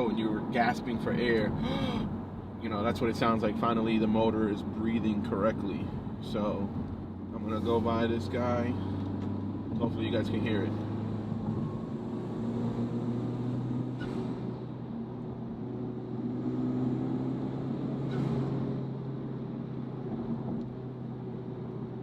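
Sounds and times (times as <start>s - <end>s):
car engine drone from inside: 0.0s - 22.0s.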